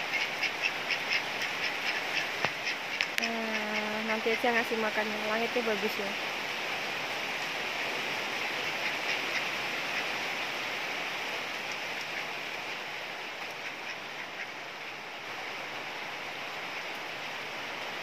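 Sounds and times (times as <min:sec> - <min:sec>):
rain falling steadily: 0:00.0 - 0:18.0.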